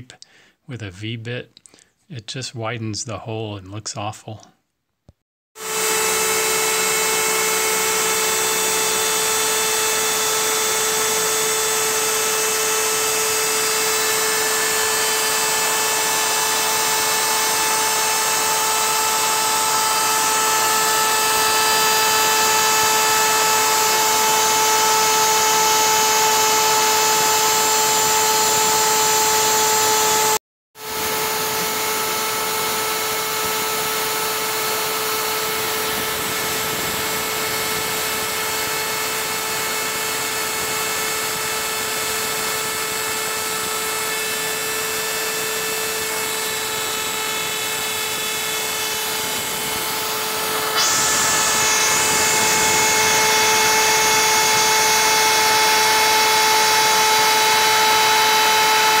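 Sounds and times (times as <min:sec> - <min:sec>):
router spindle high whine: 0:05.6 - 0:59.0.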